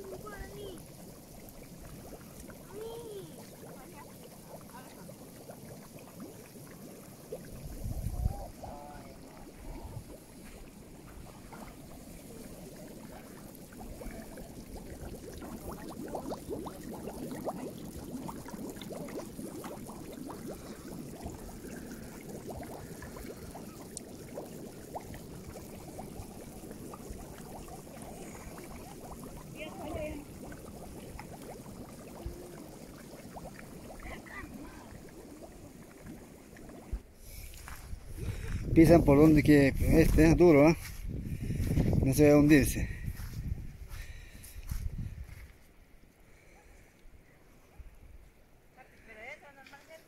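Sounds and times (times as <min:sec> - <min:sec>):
water gurgling and bubbling: 0:00.0 - 0:45.1.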